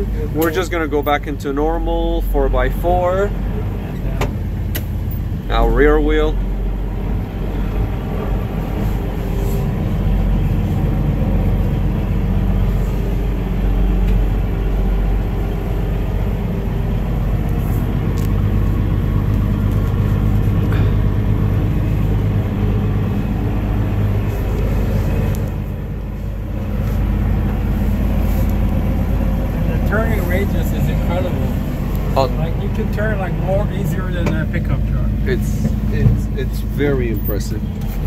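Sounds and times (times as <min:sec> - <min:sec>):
diesel engine drone in cab: 0:00.0 - 0:38.0.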